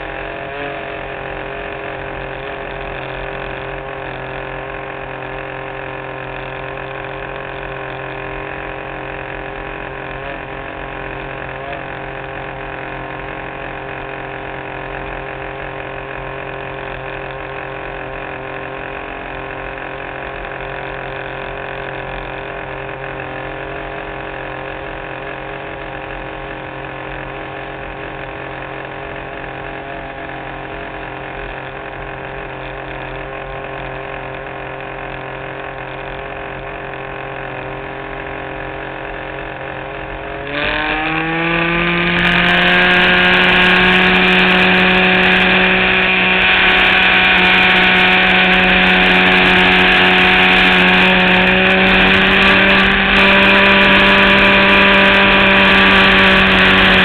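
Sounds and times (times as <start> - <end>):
muffled model plane engine: 0.0 - 57.0.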